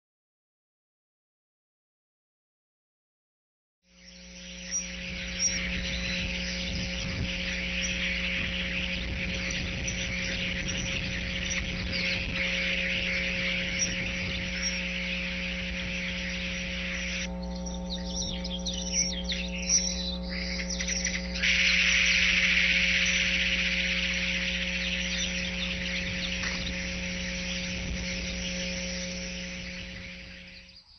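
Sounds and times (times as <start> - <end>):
bird chorus chirping: 3.9 - 30.9
steady electrical hum: 3.9 - 30.9.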